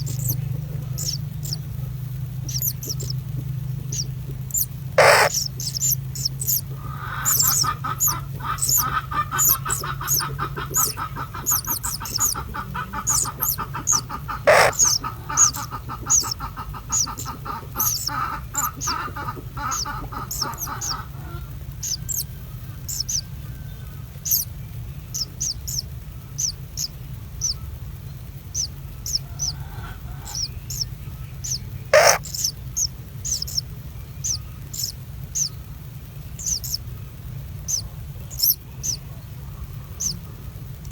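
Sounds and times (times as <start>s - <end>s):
rapid pulsing bird call: 0.0s - 27.8s, 28.4s - 37.0s, 37.6s - 40.9s
sharp bird calls: 0.0s - 27.8s, 28.5s - 36.9s, 37.6s - 40.9s
birds chirping: 0.0s - 40.9s
steady low hum: 0.0s - 40.9s.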